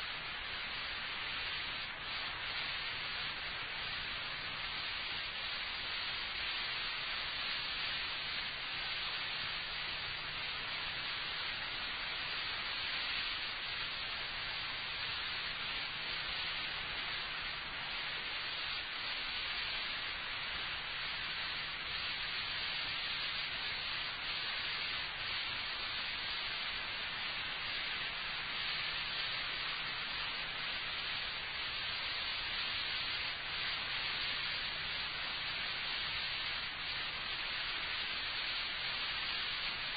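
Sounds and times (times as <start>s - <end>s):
recording hiss: 0.0s - 39.9s.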